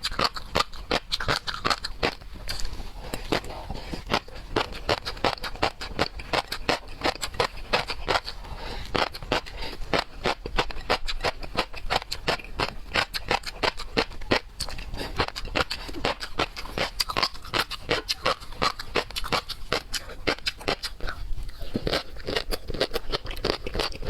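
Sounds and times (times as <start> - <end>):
chewing and shells cracking: 0.0 - 24.0.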